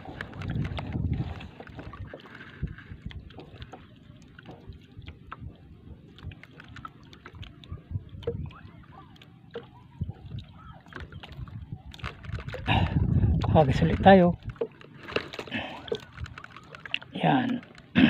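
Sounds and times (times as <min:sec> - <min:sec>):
water lapping against hull: 0:00.0 - 0:18.0.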